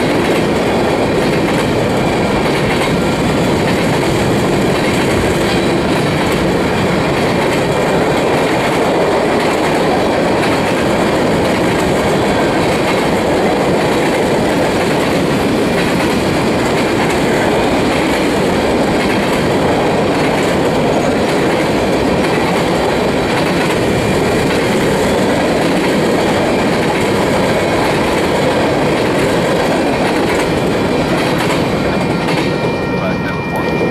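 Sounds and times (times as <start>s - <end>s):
steel wheels clattering on rails: 0.0s - 32.7s.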